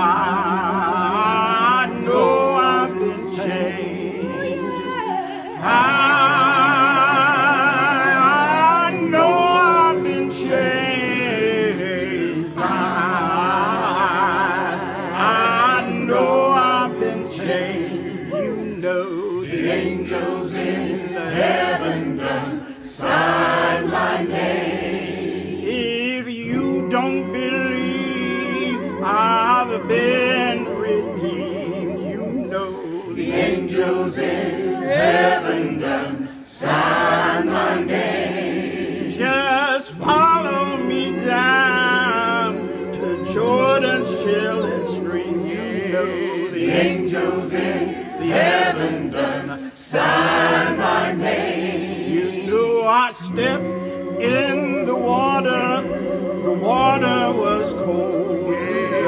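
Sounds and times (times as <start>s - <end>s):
choir singing a cappella: 0.0s - 59.0s.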